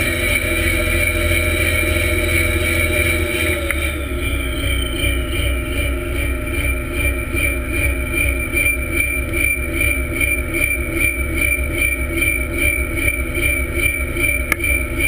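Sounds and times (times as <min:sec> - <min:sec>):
boat engine running: 0:00.0 - 0:15.0
high whine: 0:00.0 - 0:15.0.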